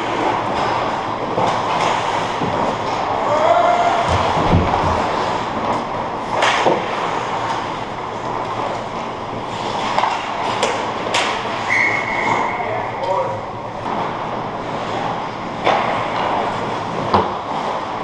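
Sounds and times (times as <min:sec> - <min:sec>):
hockey sticks and puck clacking: 0:00.0 - 0:13.2, 0:14.7 - 0:17.9.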